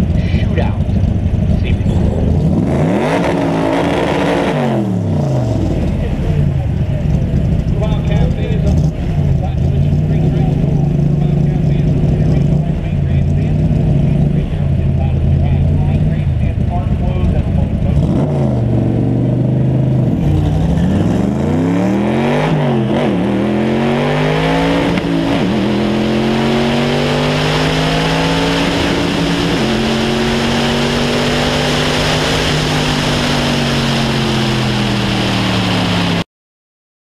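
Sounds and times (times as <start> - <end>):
car engine accelerating hard: 0.0 - 36.2.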